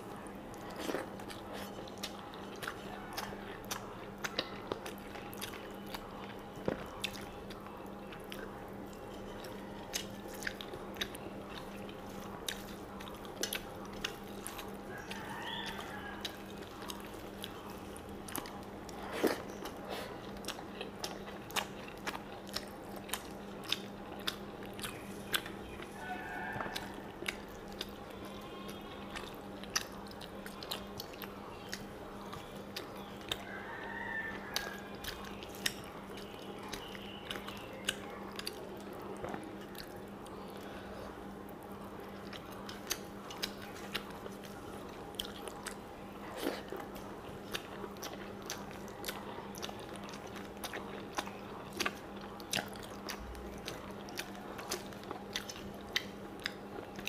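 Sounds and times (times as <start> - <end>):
person chewing and lip smacking: 0.0 - 57.0
steady low hum: 0.0 - 57.0.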